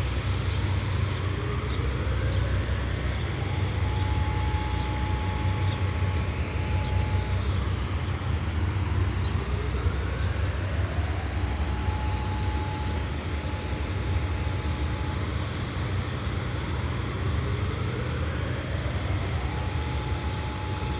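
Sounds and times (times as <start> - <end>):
steady low rumble: 0.0 - 20.9
warning siren steady tone: 0.0 - 20.9.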